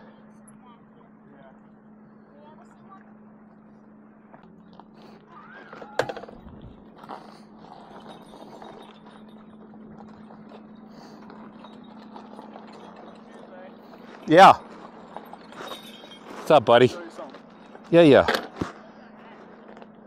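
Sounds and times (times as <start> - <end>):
electric bike humming: 0.0 - 20.0.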